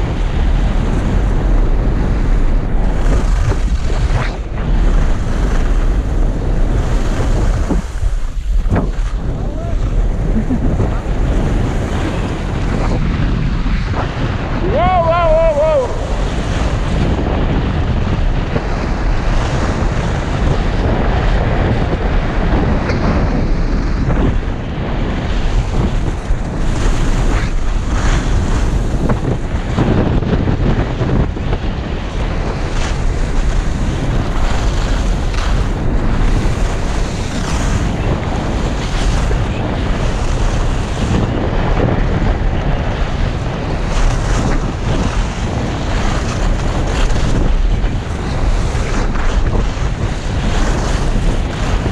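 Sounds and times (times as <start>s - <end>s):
wind over microphone: 0.0s - 51.9s
skis scraping on snow: 0.4s - 14.5s, 15.5s - 24.1s, 24.8s - 30.0s, 31.8s - 51.9s.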